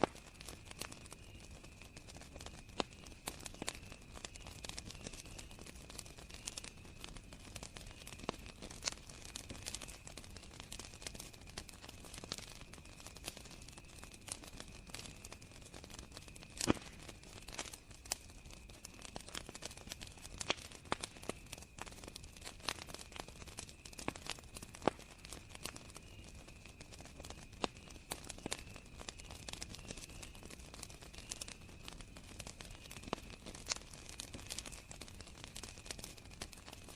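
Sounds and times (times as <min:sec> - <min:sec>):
campfire crackling and popping: 0:00.0 - 0:36.9
crickets trilling: 0:00.1 - 0:36.9.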